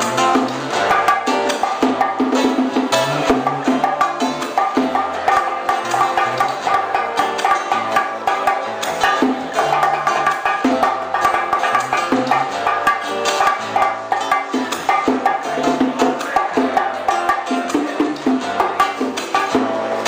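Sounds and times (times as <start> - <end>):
bass line: 0.0 - 20.0
hand percussion: 0.0 - 20.0
plucked strings: 0.0 - 20.0
wooden clicking beat: 0.0 - 20.0.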